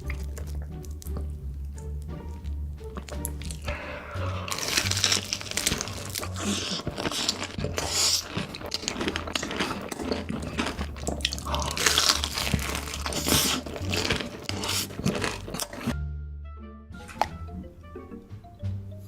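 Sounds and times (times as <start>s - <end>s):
wet chewing and crunching: 0.0s - 16.0s, 17.0s - 17.6s.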